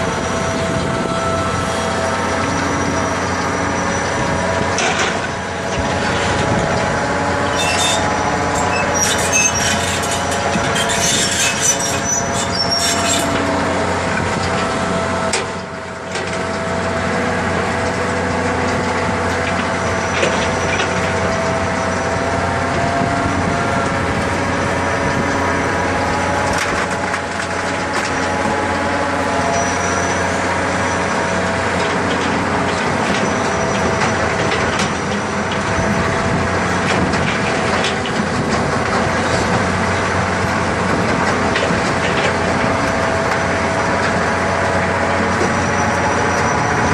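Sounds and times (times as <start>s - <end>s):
digging machine grinding din: 0.0s - 46.9s.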